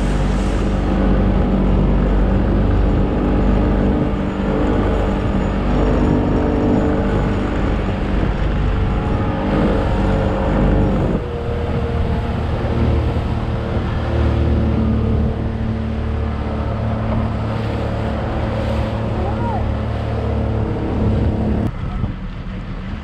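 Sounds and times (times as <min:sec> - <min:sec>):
motorboat engine running: 0:00.0 - 0:23.0
water rushing along hull: 0:00.0 - 0:23.0.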